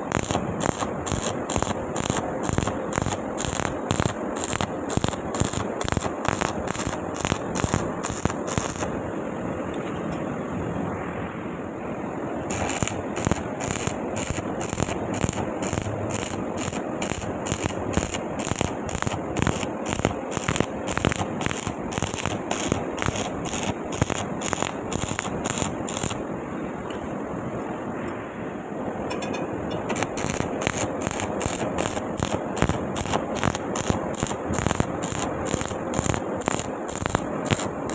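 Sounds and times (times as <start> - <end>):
welding arc crackling: 0.0 - 9.0, 12.5 - 26.3, 29.9 - 37.9.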